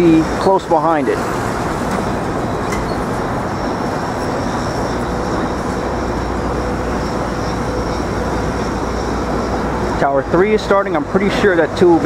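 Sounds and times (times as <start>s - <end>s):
city traffic rumble: 0.0s - 12.0s
faint high whine: 0.0s - 12.0s.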